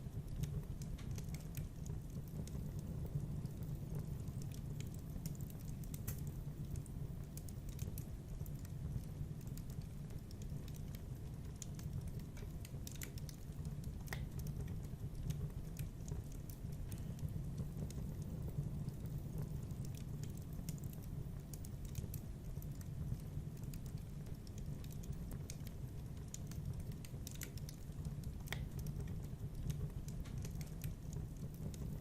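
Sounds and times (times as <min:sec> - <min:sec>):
fire flames rumbling: 0:00.0 - 0:32.0
wood fire crackling and popping: 0:00.0 - 0:32.0.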